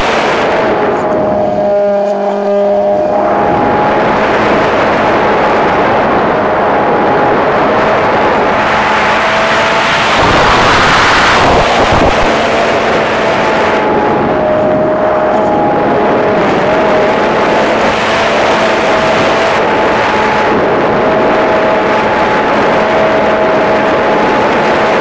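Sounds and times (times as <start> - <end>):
electric motor and propeller whine: 0.0 - 25.0
wind rush: 0.0 - 25.0.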